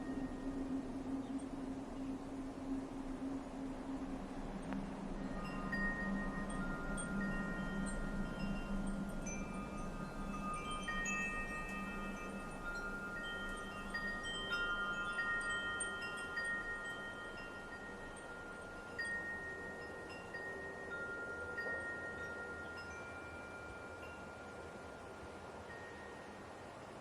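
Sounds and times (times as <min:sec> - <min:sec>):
wind chimes ringing: 0:00.0 - 0:02.8, 0:04.0 - 0:26.9
soft wind hiss: 0:00.0 - 0:27.0.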